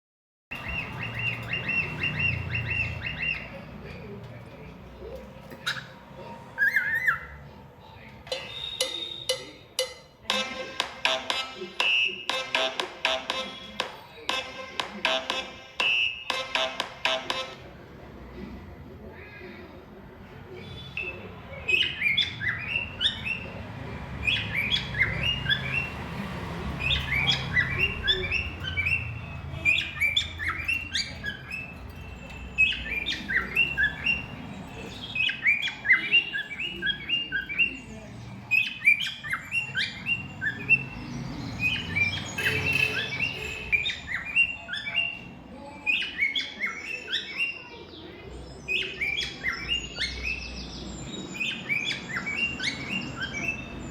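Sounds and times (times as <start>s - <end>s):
parrots chirping: 0.5s - 17.8s, 20.3s - 53.9s.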